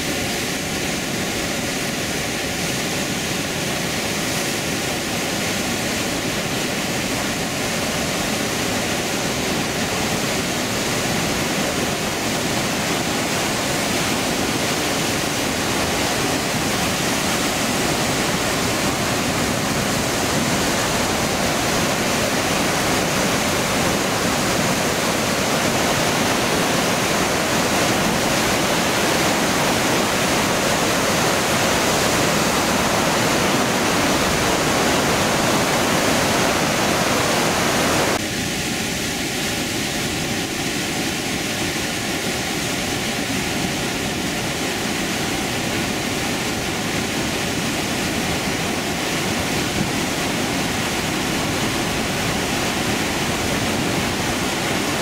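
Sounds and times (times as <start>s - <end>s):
water rushing from dam outlet: 0.0s - 55.0s.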